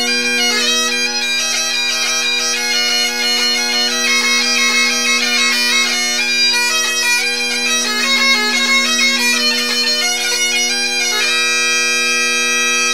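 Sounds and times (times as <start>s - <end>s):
bagpipes playing a hornpipe: 0.0s - 12.9s.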